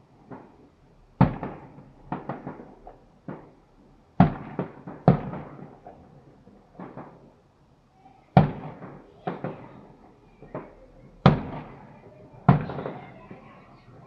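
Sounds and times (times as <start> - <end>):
fireworks bursting with rumbling echo: 0.0 - 7.5, 8.3 - 14.0.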